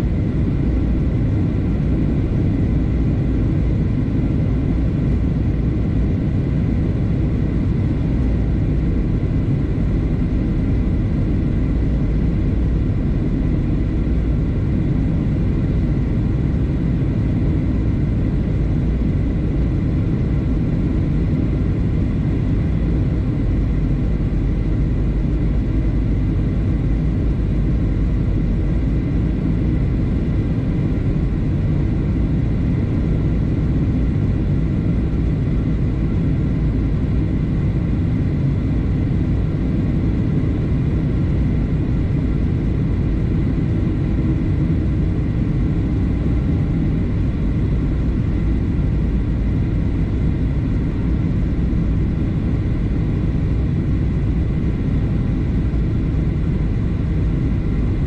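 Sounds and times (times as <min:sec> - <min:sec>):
airliner engine rumble: 0:00.0 - 0:58.0
faint steady whine: 0:00.0 - 0:58.0.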